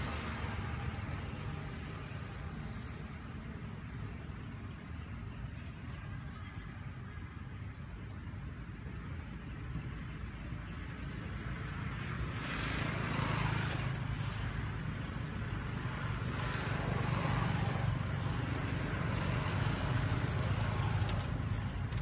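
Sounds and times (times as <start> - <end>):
traffic road noise: 0.0 - 22.0
vehicle engine hum: 0.0 - 22.0.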